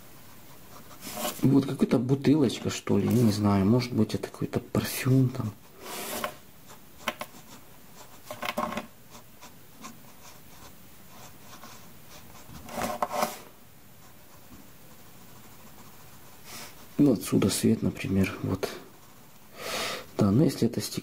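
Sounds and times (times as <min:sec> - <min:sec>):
pencil scratching on paper: 0:00.3 - 0:01.7, 0:02.4 - 0:03.5, 0:04.9 - 0:19.4.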